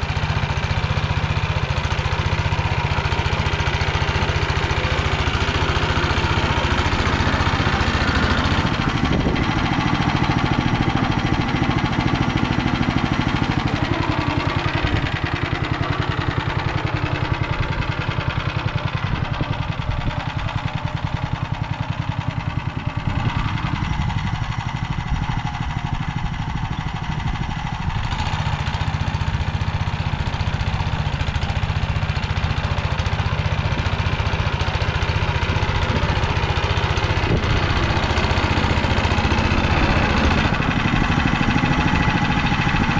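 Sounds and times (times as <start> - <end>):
walk-behind tractor engine running: 0.0 - 42.9.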